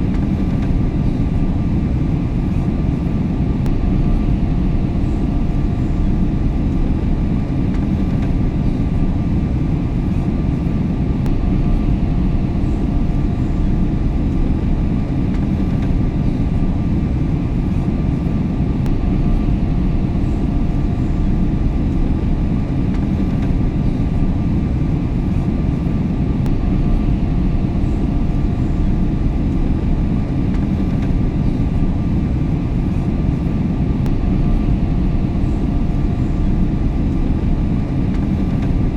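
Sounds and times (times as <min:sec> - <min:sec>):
airliner cabin rumble: 0:00.0 - 0:38.9
faint steady hum: 0:00.0 - 0:38.9.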